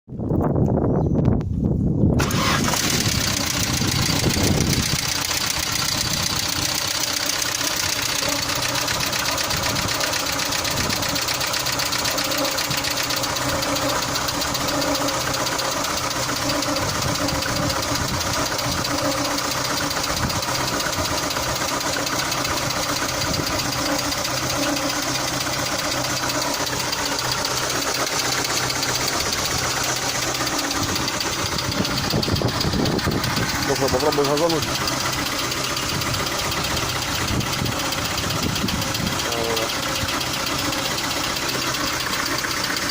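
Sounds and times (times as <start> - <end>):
car engine idling: 2.1 - 42.9
engine lifters ticking: 2.2 - 42.9.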